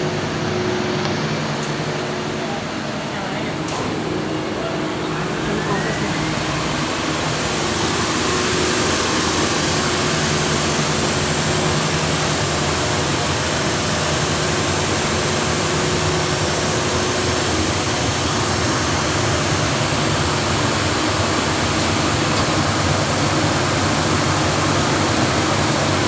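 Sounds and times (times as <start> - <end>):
boiler burner rushing: 0.0 - 26.0.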